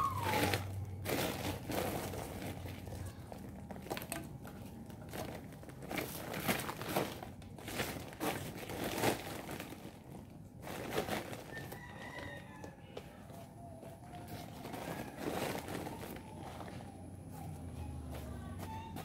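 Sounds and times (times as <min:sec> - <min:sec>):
plastic sack crinkling and rustling: 0:00.0 - 0:12.8, 0:13.8 - 0:17.0.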